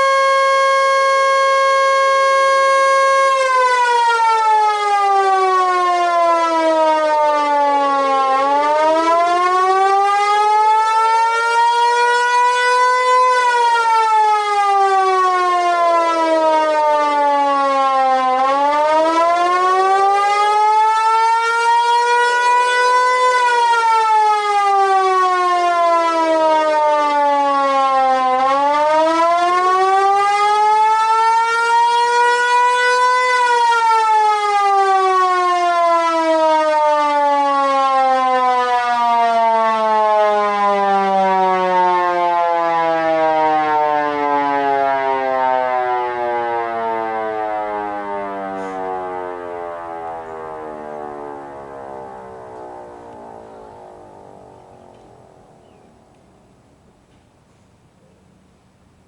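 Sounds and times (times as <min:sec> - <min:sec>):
siren wailing: 0:00.0 - 0:57.1.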